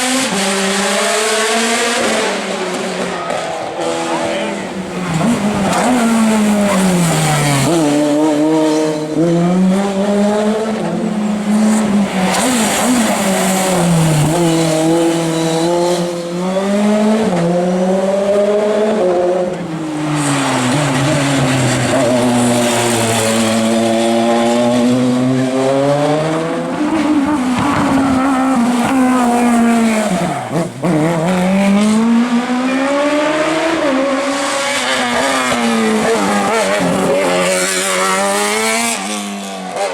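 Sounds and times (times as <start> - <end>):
racing car engine accelerating: 0.0 - 39.9.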